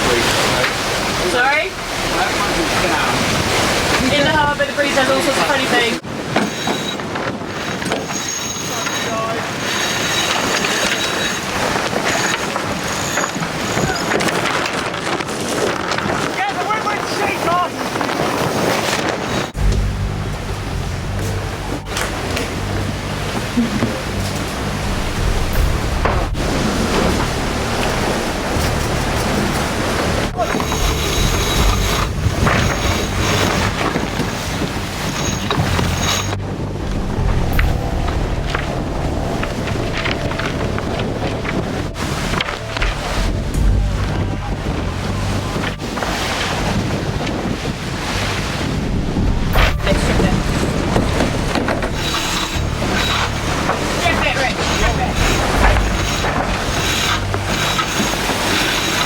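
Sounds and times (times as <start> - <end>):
water rushing past hull: 0.0 - 59.0
wind buffeting microphone: 0.0 - 59.0.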